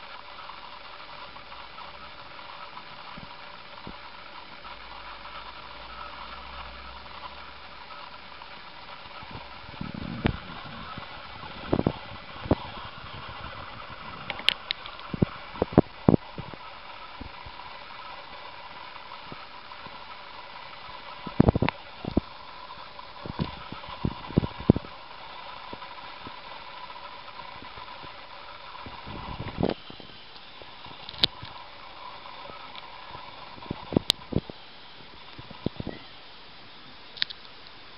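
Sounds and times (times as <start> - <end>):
background hum: 0.0 - 37.9.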